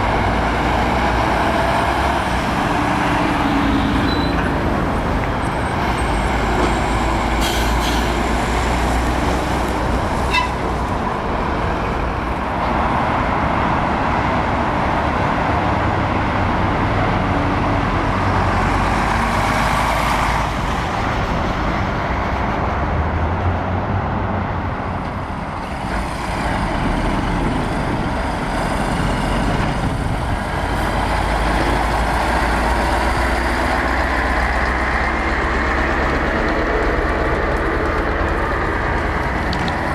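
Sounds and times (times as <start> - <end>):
diesel trucks passing: 0.0 - 39.9.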